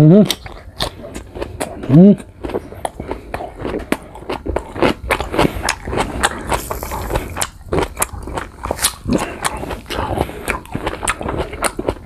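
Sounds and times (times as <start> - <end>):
crunching and chewing fruit: 0.0 - 12.0.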